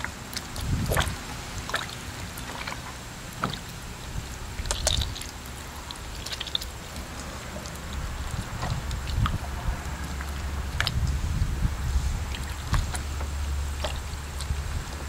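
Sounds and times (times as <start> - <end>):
dough squelching in water: 0.0 - 15.0.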